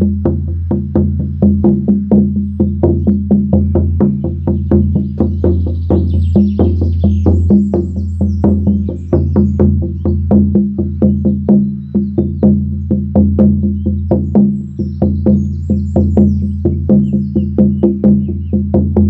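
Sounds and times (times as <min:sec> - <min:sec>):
frame drum booming: 0:00.0 - 0:19.0.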